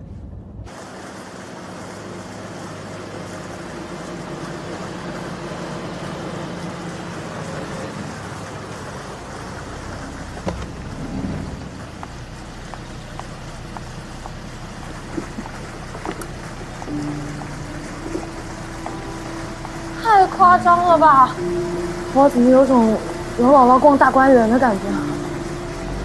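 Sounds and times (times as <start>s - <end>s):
vehicle engine running low: 0.0s - 26.0s
fountain water splashing: 0.7s - 26.0s.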